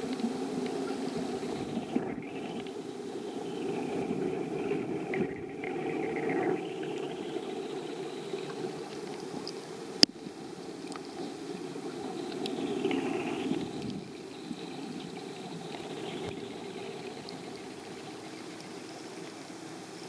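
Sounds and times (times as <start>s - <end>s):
muffled underwater rush: 0.0s - 20.0s.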